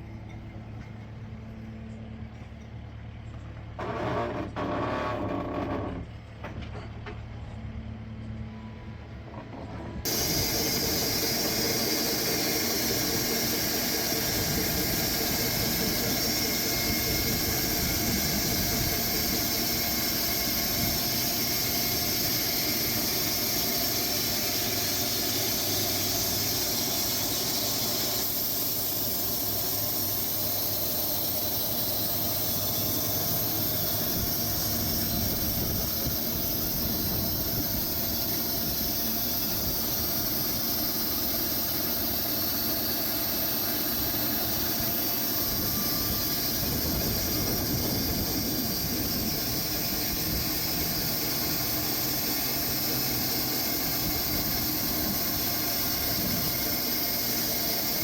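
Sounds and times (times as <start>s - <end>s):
machine humming and squealing: 0.0s - 58.0s
saw hissing through log: 10.1s - 58.0s.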